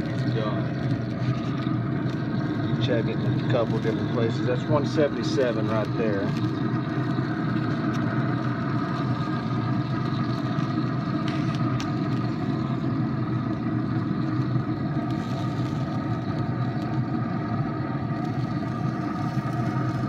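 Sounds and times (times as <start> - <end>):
combustion fan humming: 0.0 - 20.0.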